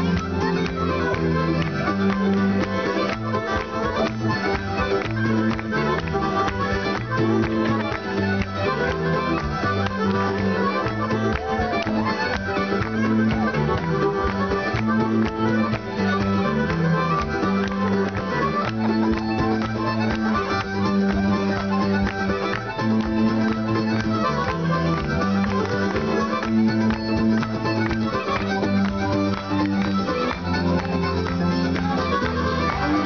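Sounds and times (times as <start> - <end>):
bass notes: 0.0 - 33.0
fiddle playing dance tune: 0.0 - 33.0.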